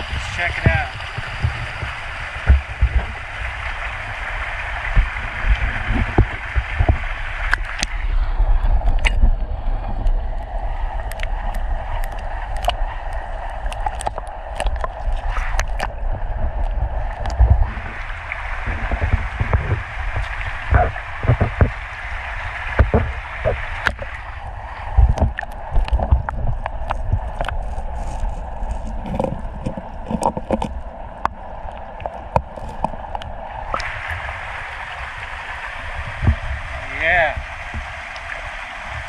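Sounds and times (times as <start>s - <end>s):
creek water running: 0.0s - 39.0s
low rumble on microphone: 0.0s - 39.0s.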